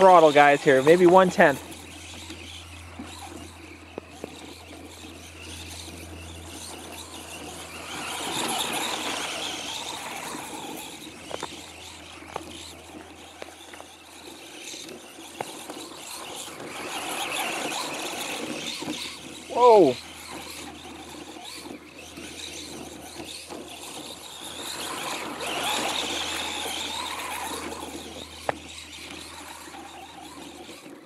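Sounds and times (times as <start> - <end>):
toy truck electric motor: 0.0 - 31.0
tyres churning through snow: 0.0 - 31.0.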